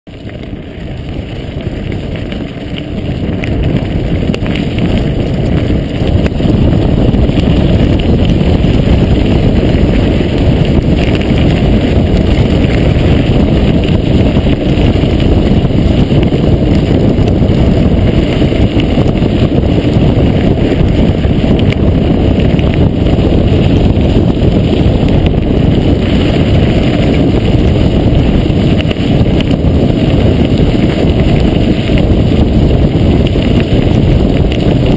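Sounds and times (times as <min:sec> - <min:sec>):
bike rattling over stones: 0:00.1 - 0:34.9
bike tyres on loose gravel: 0:00.1 - 0:34.9
wind buffeting microphone: 0:00.1 - 0:34.9.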